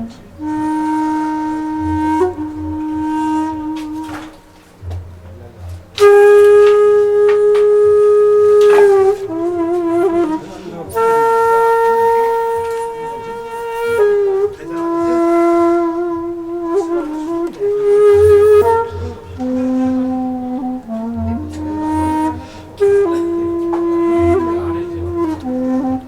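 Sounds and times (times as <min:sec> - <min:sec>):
flute-like wind instrument: 0:00.0 - 0:26.0.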